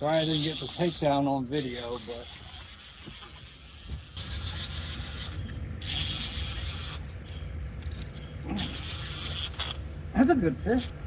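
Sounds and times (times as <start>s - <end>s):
fishing reel being cranked: 0.0s - 7.4s, 8.0s - 9.8s.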